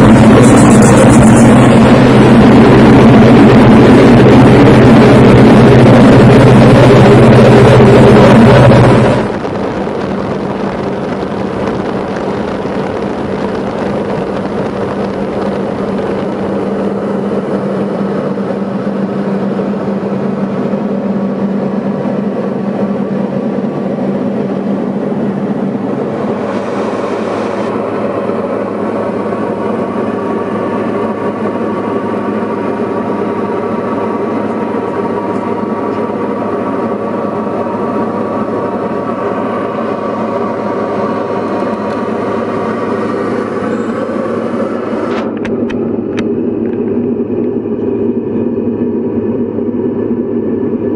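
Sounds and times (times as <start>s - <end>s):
aircraft engine and propeller drone: 0.0s - 50.9s.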